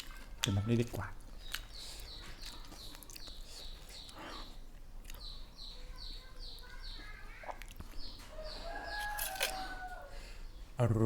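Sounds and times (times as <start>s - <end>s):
small bird chirping: 0.0s - 10.8s.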